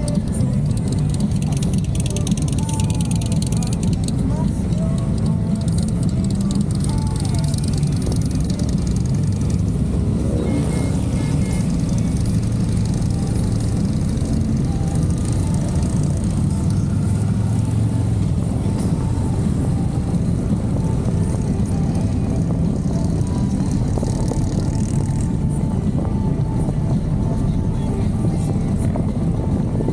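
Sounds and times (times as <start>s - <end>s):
motorcycle engines droning: 0.0s - 29.9s.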